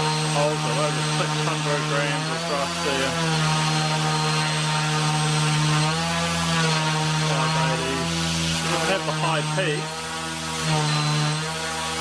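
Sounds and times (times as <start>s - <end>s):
toy helicopter rotor hum: 0.0s - 12.0s.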